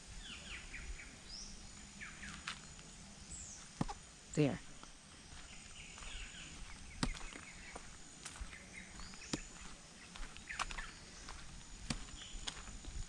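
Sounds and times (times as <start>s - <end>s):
birds chirping: 0.0s - 13.0s
steady high-pitched whine: 0.0s - 13.0s.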